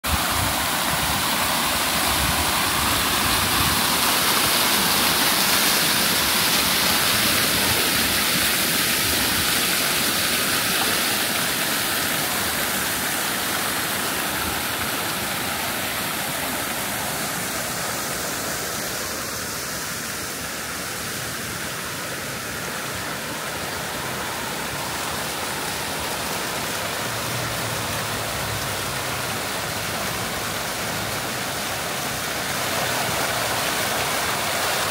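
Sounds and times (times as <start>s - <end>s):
fountain water splashing into pool: 0.0s - 34.9s.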